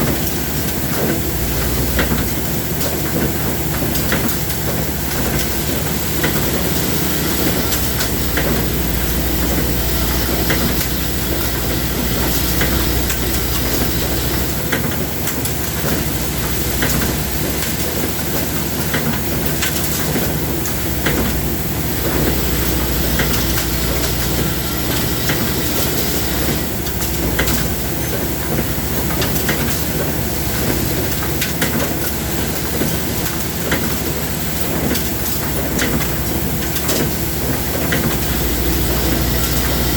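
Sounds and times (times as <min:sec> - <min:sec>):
industrial machinery running: 0:00.0 - 0:39.9.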